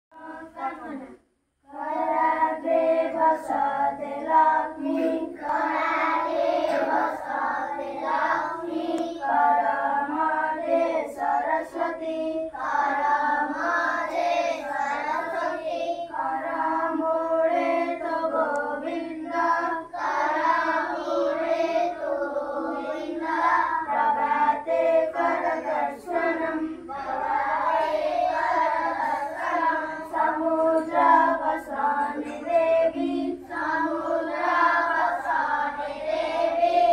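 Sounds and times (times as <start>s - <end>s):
children singing in unison: 0.2s - 1.0s, 1.6s - 36.9s.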